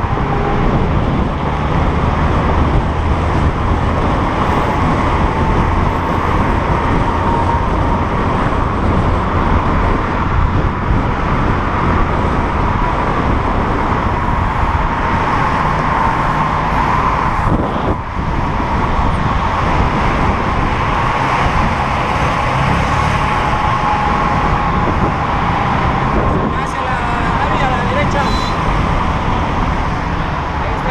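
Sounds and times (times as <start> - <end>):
road traffic: 0.0 - 30.9
wind rush on microphone: 0.0 - 30.9.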